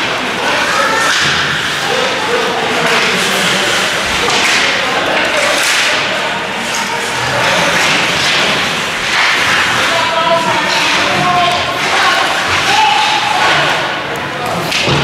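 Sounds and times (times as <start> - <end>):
hockey sticks clacking: 0.0 - 15.0
spectators shouting: 0.1 - 14.2.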